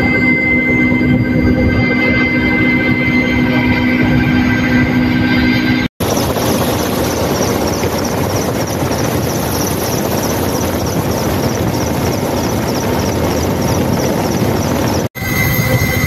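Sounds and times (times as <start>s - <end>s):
helicopter rotor and engine noise: 0.0s - 16.0s.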